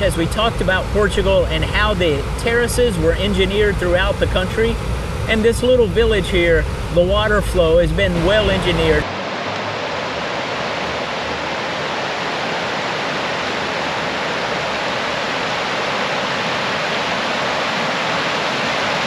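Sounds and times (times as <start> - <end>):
stream rushing over drops: 0.0 - 19.0.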